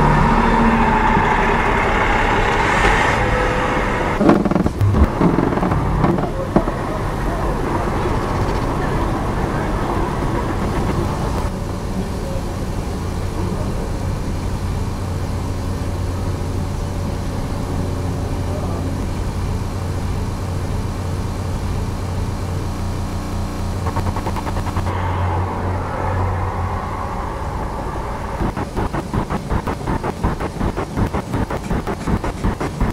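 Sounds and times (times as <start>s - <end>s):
car engine idling: 0.0s - 32.9s
street traffic: 0.0s - 32.9s.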